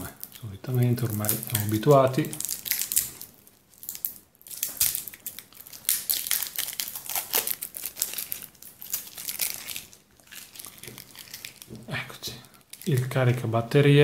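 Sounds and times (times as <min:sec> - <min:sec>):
plastic wrapping crinkling: 0:00.0 - 0:13.6.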